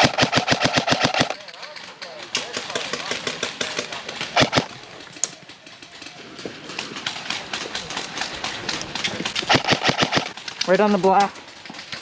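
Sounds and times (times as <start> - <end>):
airsoft guns firing: 0.0 - 5.5, 6.2 - 10.7
loud crack: 0.0 - 10.7.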